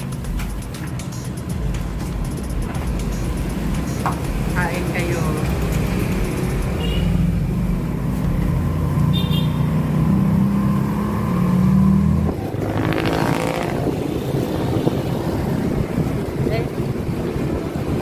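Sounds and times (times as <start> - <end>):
vehicle engine and road noise: 0.0 - 18.0
vehicle rushing past: 0.0 - 18.0.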